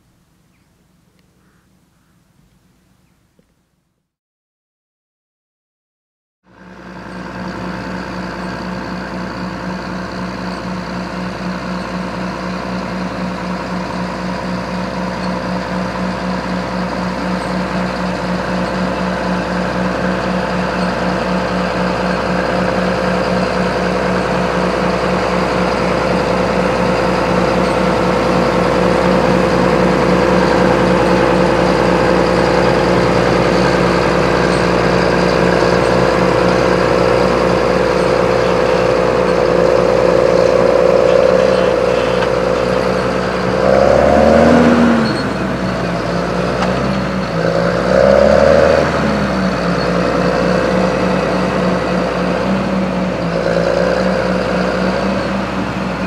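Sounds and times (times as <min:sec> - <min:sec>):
tractor diesel engine running: 0:06.5 - 0:56.0.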